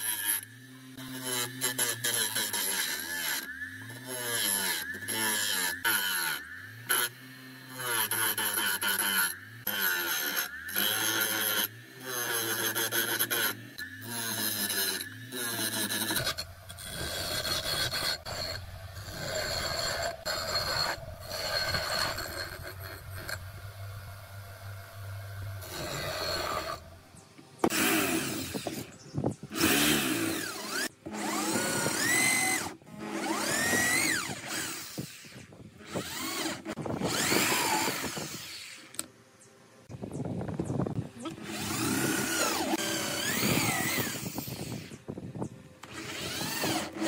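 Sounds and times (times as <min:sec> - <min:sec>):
electric drill boring into wood: 0:00.0 - 0:27.0, 0:27.6 - 0:28.9, 0:29.5 - 0:39.1, 0:41.2 - 0:45.0, 0:45.8 - 0:47.0
wood rasping against grinding wheel: 0:00.0 - 0:39.1, 0:40.9 - 0:45.1, 0:45.8 - 0:47.0
bench grinder humming: 0:00.0 - 0:39.2, 0:41.0 - 0:45.1, 0:45.8 - 0:47.0.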